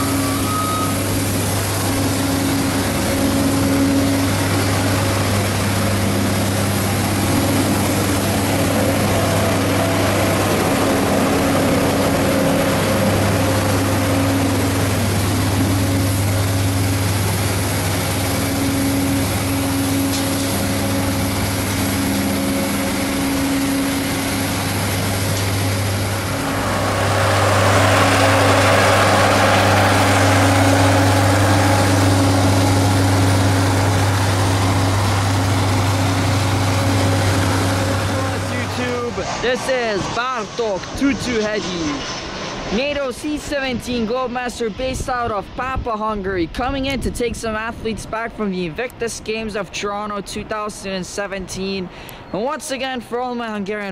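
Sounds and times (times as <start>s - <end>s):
aircraft machine drone: 0.0s - 52.3s.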